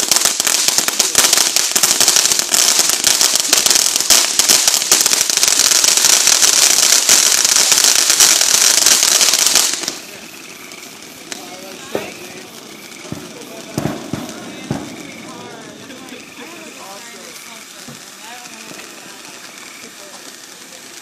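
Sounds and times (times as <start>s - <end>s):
firework fountain hissing and crackling: 0.0s - 21.0s.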